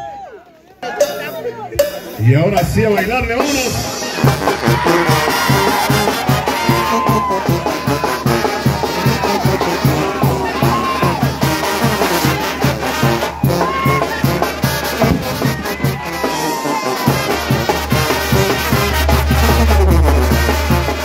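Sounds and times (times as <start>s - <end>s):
brass band dance music: 0.8s - 21.0s
drum beat: 0.8s - 21.0s.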